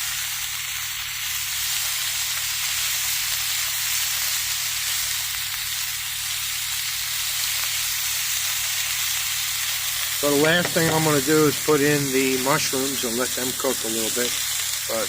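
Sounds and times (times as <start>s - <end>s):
meat and vegetables sizzling: 0.0s - 15.0s.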